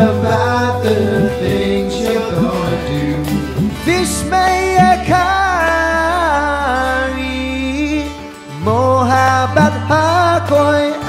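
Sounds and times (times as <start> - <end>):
man singing: 0.0 - 11.0
strummed acoustic guitar: 0.0 - 11.0.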